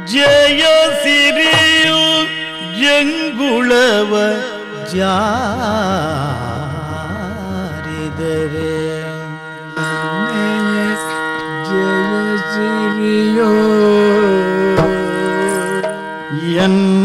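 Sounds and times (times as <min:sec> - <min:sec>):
person singing ornamented notes: 0:00.0 - 0:17.0.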